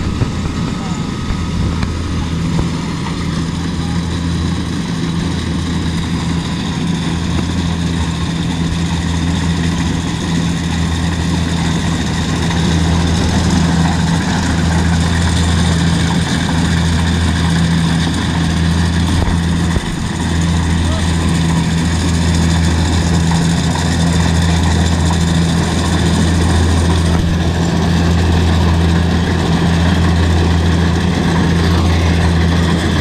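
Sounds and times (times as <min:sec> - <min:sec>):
combine harvester engine running: 0:00.0 - 0:33.0.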